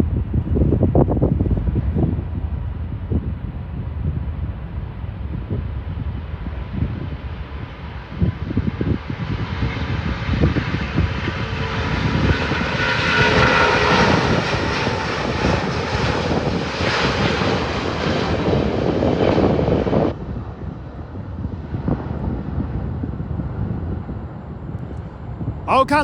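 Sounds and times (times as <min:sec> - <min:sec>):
jet engine roar with fan whine: 0:00.0 - 0:25.6.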